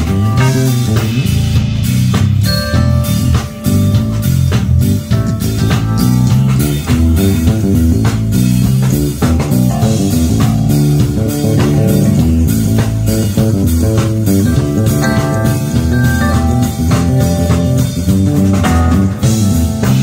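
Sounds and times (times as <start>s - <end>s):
electric bass line: 0.0s - 20.0s
funk band playing: 0.0s - 20.0s.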